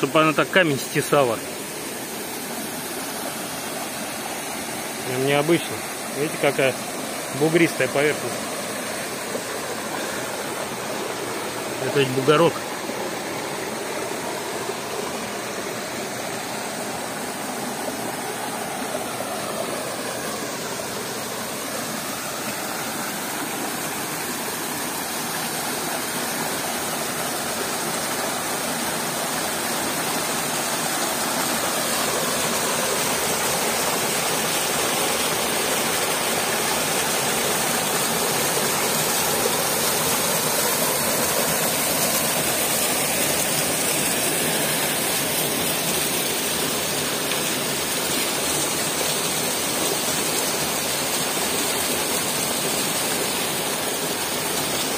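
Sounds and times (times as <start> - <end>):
small waterfall rushing: 0.0 - 54.9.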